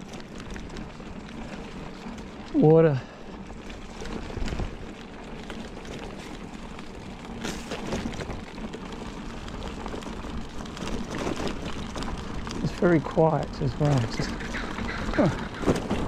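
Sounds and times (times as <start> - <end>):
bike tyres rolling on dirt: 0.0 - 16.0.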